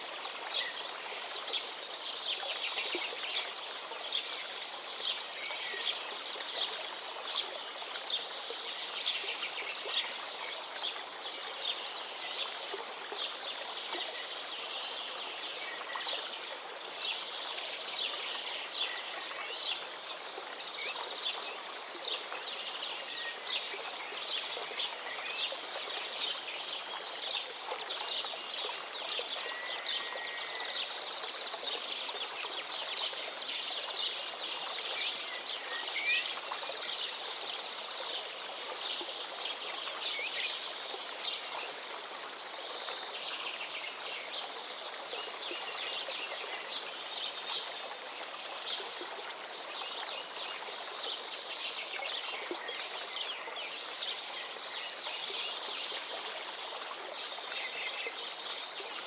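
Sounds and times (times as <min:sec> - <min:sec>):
river water running over rocks: 0:00.0 - 0:59.0.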